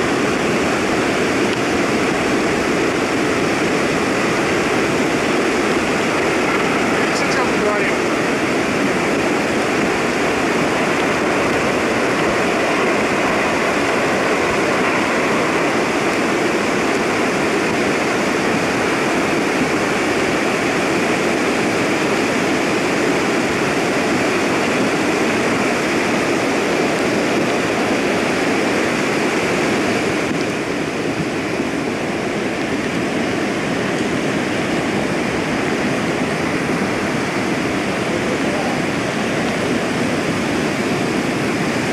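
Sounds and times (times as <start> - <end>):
mudflow rushing down slope: 0.0 - 41.9.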